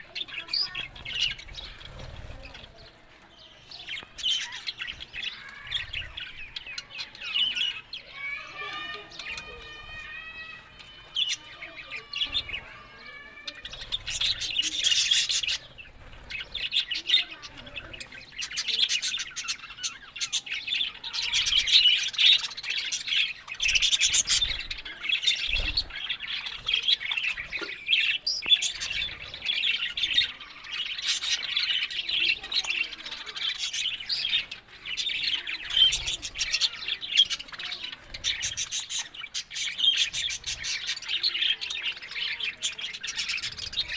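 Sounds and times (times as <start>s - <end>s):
budgerigars chirping and warbling: 0.0s - 43.9s.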